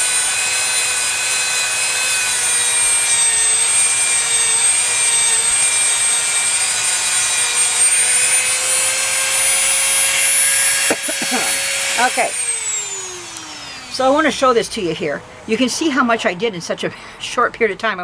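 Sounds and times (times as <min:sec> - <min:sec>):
rotary tool grinding paint: 0:00.0 - 0:14.5.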